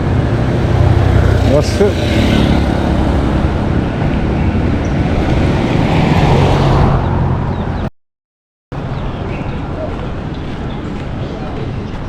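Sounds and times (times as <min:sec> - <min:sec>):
steady traffic rush: 0:00.0 - 0:07.9, 0:08.7 - 0:12.0.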